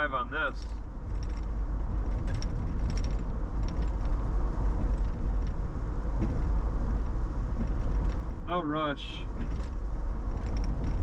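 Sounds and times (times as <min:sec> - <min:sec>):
road and tyre rumble: 0:00.0 - 0:11.0
light clicks and rattles: 0:00.4 - 0:08.5, 0:09.2 - 0:11.0.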